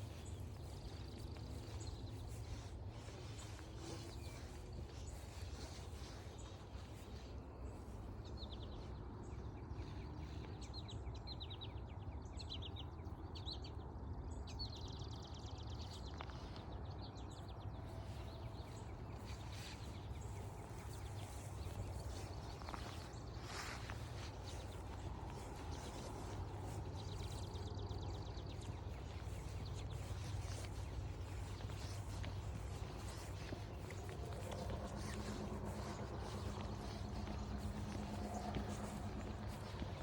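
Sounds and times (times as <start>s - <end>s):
steady low rumble: 0.0s - 10.0s, 17.0s - 40.0s
faint footsteps on trail: 0.0s - 12.0s, 14.9s - 40.0s.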